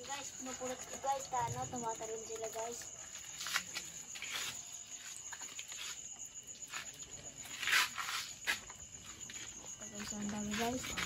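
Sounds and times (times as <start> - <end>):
shrimp splashing in a tub: 0.0 - 9.3
crickets chirping: 0.0 - 11.0.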